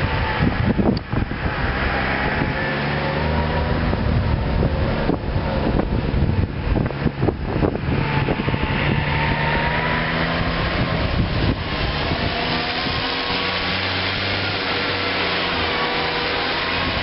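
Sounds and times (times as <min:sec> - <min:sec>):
diesel farm machinery running: 0:00.0 - 0:17.0
wind buffeting microphone: 0:00.0 - 0:17.0.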